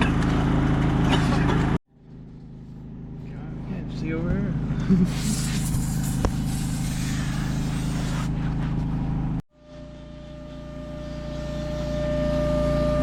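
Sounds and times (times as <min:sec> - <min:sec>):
motor hum with high whine: 0:00.0 - 0:05.1, 0:05.7 - 0:13.0
low motor hum: 0:00.0 - 0:13.0.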